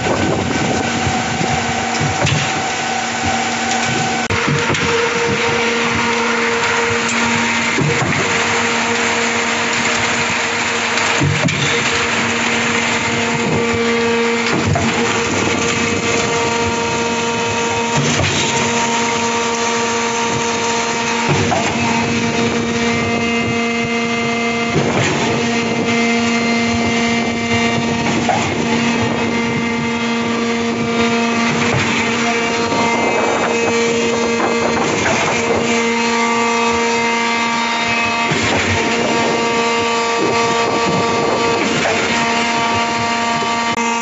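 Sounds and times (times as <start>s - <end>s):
concrete pump humming: 0.0s - 44.0s.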